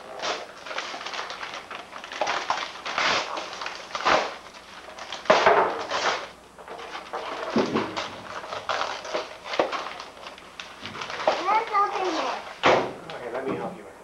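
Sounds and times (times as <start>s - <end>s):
wrapping paper tearing and crinkling: 0.0s - 12.6s.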